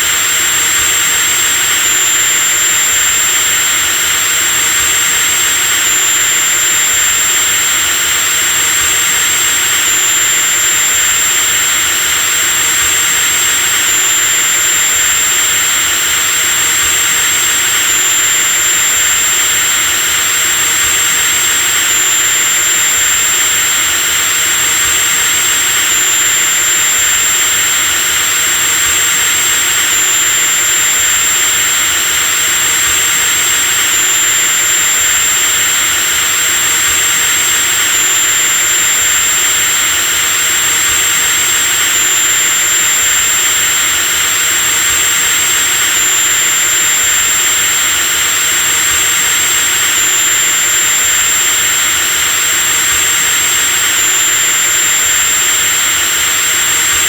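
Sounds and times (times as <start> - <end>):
electric drill whining: 0.0 - 57.0.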